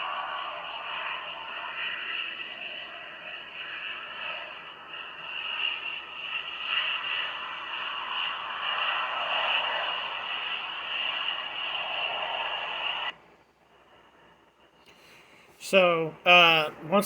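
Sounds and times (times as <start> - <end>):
jet aircraft landing: 0.0 - 17.0.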